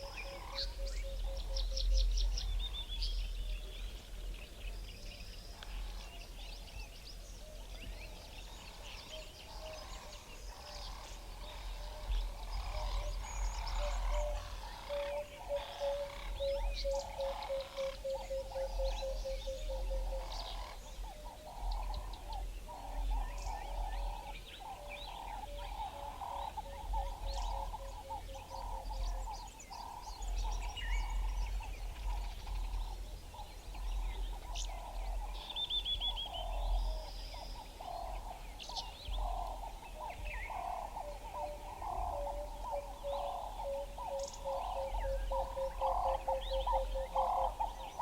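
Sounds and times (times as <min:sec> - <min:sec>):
low repeated bird calls: 0:00.0 - 0:48.0.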